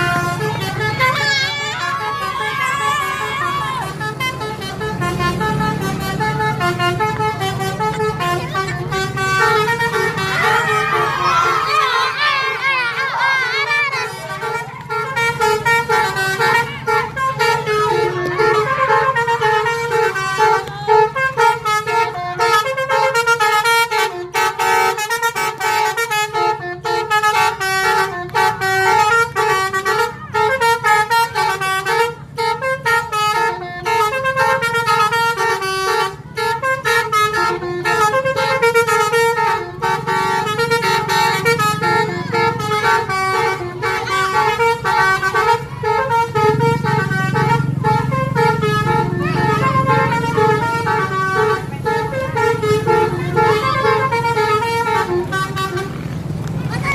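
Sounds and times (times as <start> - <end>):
low engine rumble: 0.0 - 56.9
musical bus air horn: 0.0 - 56.9.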